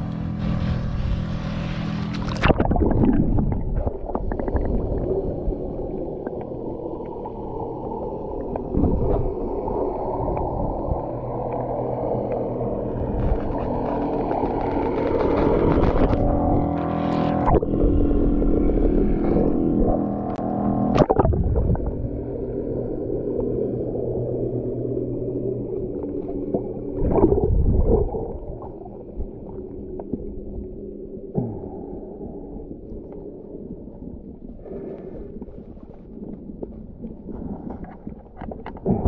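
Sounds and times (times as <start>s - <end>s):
boat motor drone: 0.0s - 34.4s
underwater rumble: 0.0s - 39.0s.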